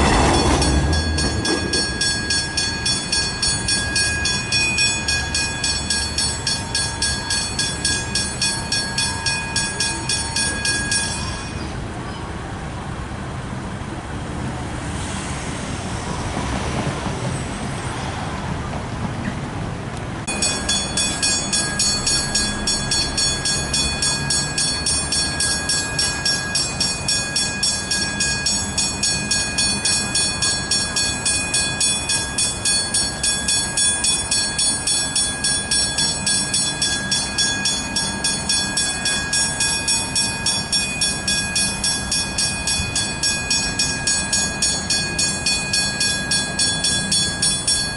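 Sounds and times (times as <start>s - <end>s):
level crossing bells ringing: 0.0s - 11.9s, 20.3s - 47.9s
train rumble: 0.0s - 47.9s.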